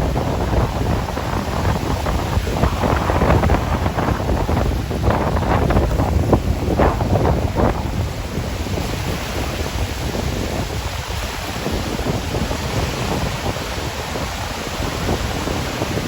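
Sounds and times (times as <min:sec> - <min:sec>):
rough sea surf breaking: 0:00.0 - 0:16.0
wind buffeting microphone: 0:00.0 - 0:16.0.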